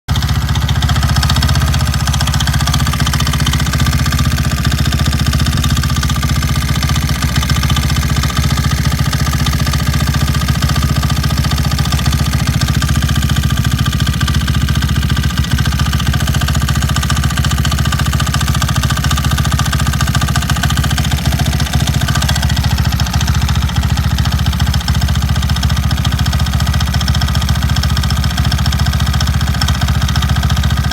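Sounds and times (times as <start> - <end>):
scooter engine idling: 0.1 - 30.9.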